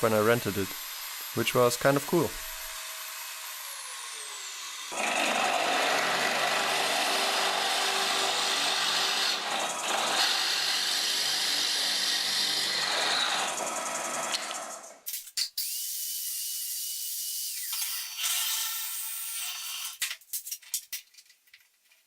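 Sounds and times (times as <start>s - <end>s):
power tool cutting wood: 0.0s - 20.0s.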